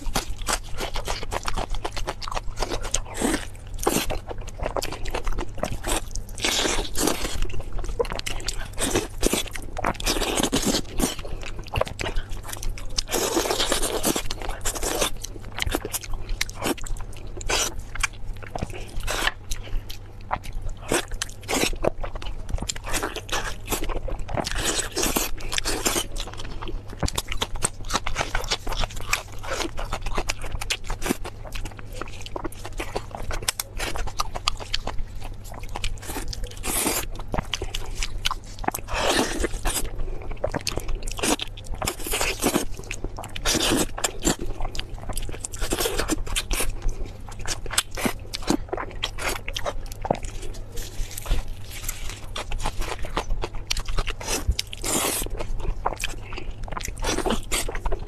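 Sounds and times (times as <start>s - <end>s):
chewing with wet mouth clicks: 0.0s - 58.0s.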